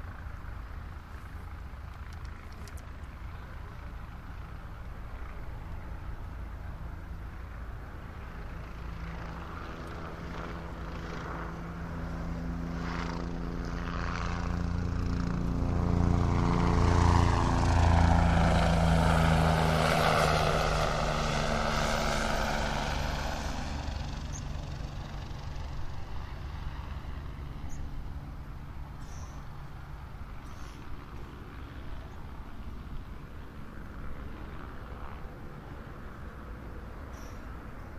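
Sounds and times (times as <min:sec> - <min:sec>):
airliner flying overhead: 0:00.0 - 0:37.9.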